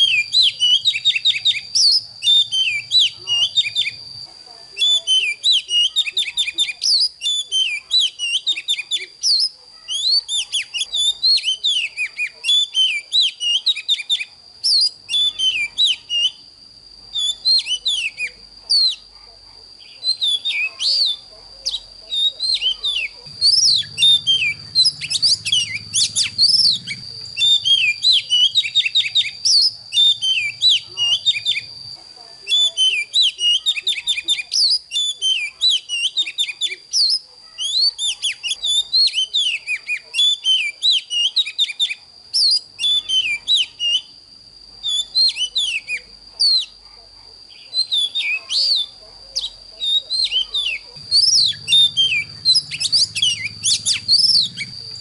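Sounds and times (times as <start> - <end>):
bird singing whistles and chirps: 0.0 - 16.5, 17.1 - 19.1, 19.8 - 31.8, 32.4 - 44.2, 44.8 - 46.8, 47.5 - 55.0.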